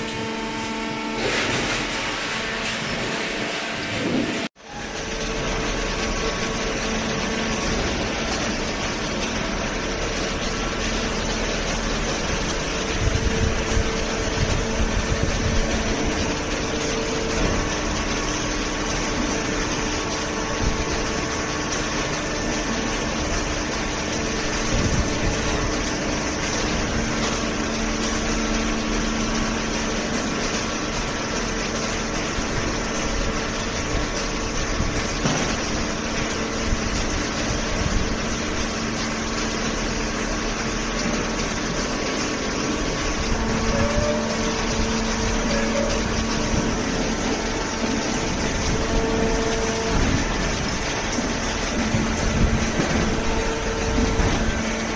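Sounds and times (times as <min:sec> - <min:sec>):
industrial machinery humming and whining: 0:00.0 - 0:54.9.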